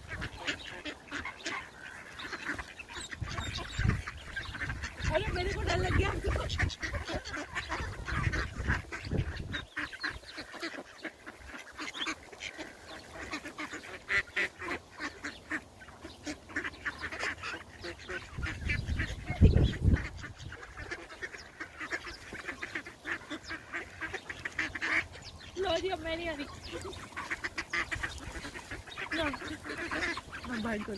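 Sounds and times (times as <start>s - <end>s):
ducks calling: 0.0s - 30.9s.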